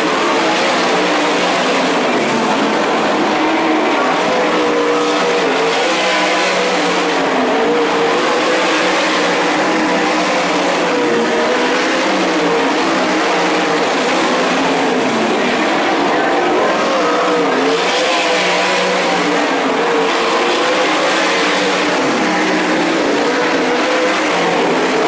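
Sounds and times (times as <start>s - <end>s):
race car engines running hard: 0.0s - 25.0s.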